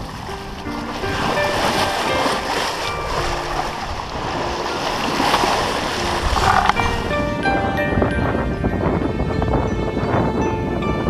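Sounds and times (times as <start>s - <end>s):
background music with held notes: 0.0s - 11.0s
water splashing along ship hull: 0.0s - 11.0s.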